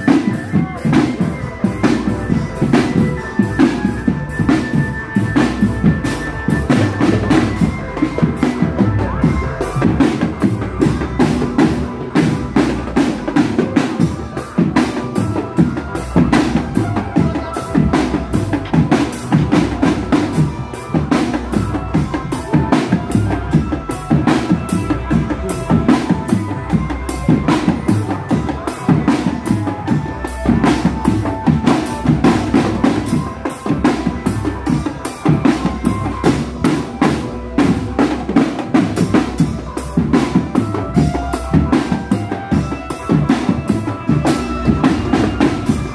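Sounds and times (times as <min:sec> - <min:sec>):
marching drum band: 0:00.0 - 0:45.9.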